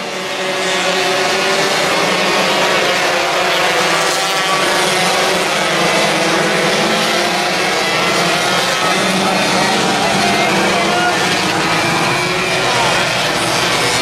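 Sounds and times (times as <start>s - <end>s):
sprint car engines droning: 0.0s - 14.0s.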